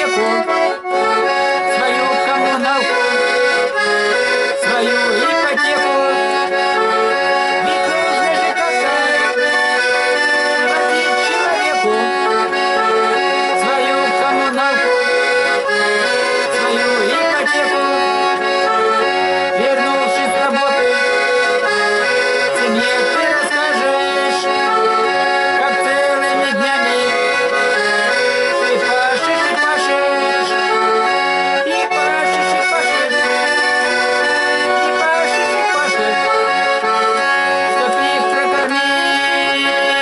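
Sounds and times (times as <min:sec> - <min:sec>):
instrumental music with chords: 0:00.0 - 0:40.0.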